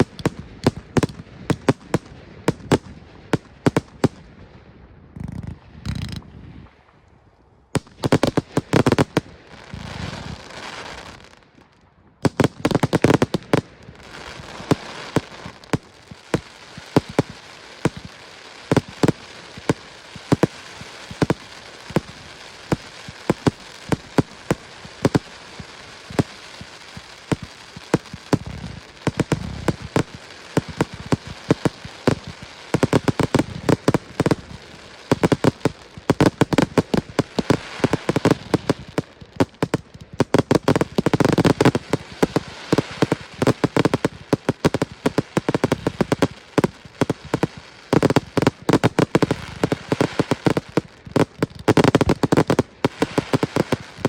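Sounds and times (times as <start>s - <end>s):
fireworks cracks and bangs: 0.0s - 4.3s, 7.8s - 54.0s
heavy fireworks booms: 0.0s - 6.6s, 7.8s - 54.0s
fireworks crackling: 0.0s - 6.8s, 7.7s - 54.0s.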